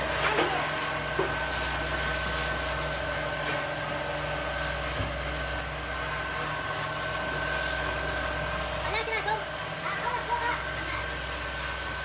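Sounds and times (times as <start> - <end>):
high constant whine: 0.0 - 12.0
machine hum: 0.0 - 12.0.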